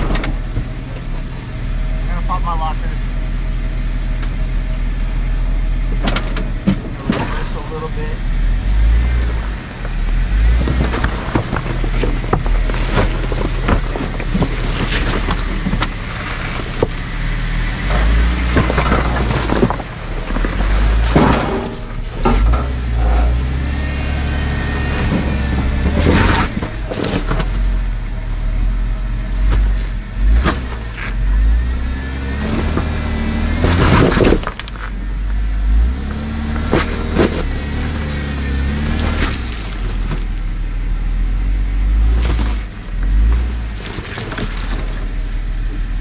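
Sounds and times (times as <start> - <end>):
off-road engine revving: 0.0 - 46.0
tires crunching on rock: 0.0 - 46.0.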